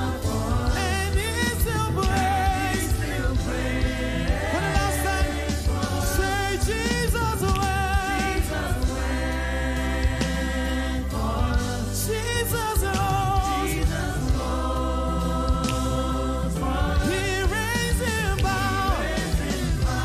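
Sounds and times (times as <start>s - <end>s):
choir and congregation singing: 0.0s - 20.0s
instrumental backing: 0.0s - 20.0s.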